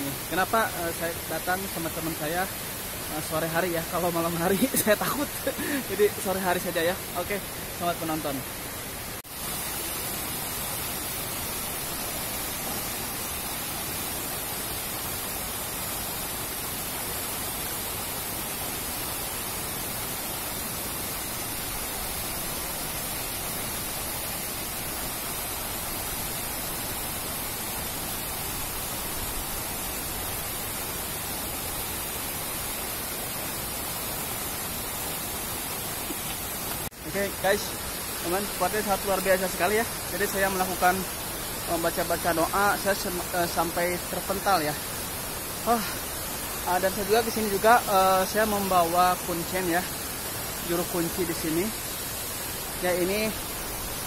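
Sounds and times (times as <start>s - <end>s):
waterfall rushing into pool: 0.0s - 54.0s.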